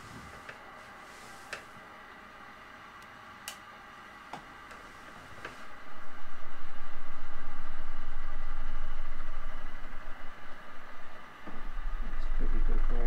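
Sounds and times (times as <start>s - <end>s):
faint electrical hum and hiss: 0.0s - 13.0s.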